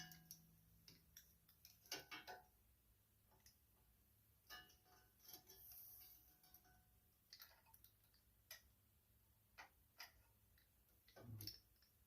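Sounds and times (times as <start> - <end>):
small parts clicking and tapping: 0.0 - 12.0.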